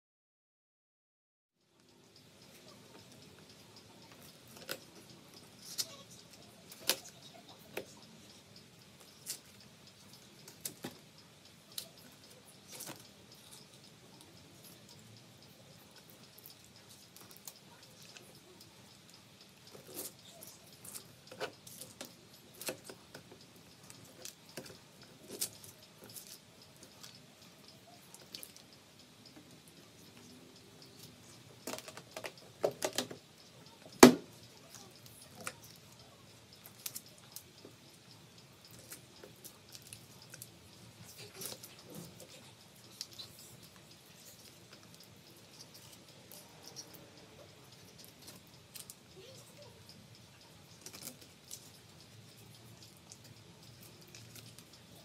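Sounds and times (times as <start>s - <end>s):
wax comb crackling: 1.8s - 55.0s.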